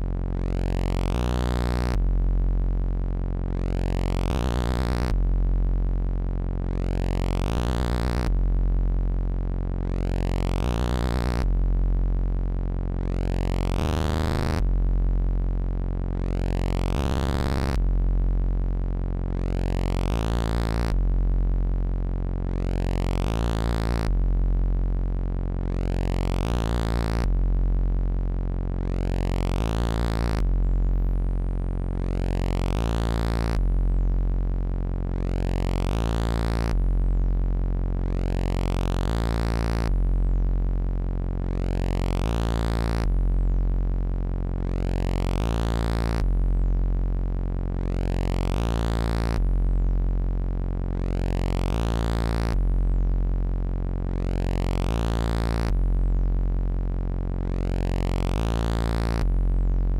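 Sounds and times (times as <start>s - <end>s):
analog synthesizer low drone: 0.0s - 59.9s.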